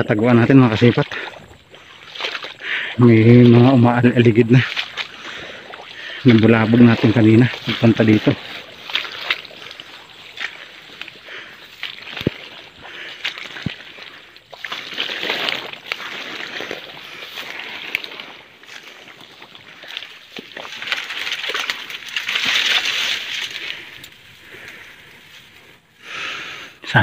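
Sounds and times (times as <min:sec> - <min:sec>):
dry grass rustling and crackling: 0:00.0 - 0:26.6.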